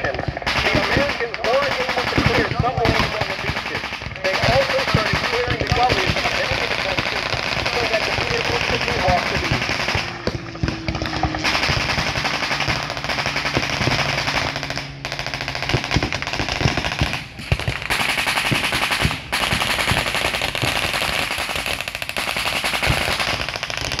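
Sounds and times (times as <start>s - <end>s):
blank gunfire bursts: 0.0s - 24.0s.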